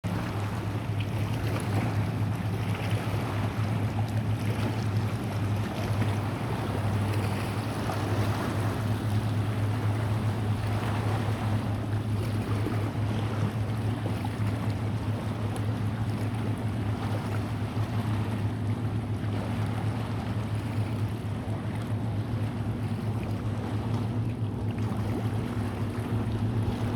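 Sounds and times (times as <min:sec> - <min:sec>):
boat engine droning: 0:00.0 - 0:26.9
wind and water rushing: 0:00.0 - 0:26.9.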